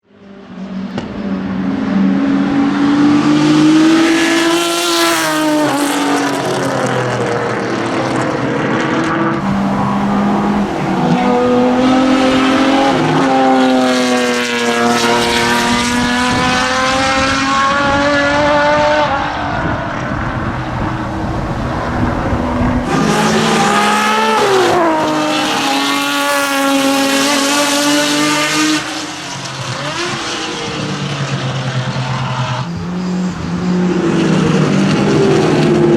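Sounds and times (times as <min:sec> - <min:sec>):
race car engine accelerating: 0:00.5 - 0:35.9.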